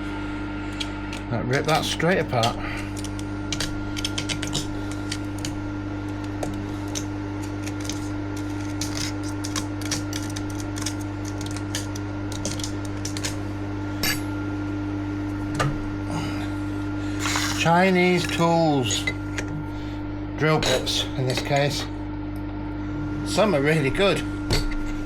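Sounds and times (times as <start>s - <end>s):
milling machine humming: 0.0s - 25.0s.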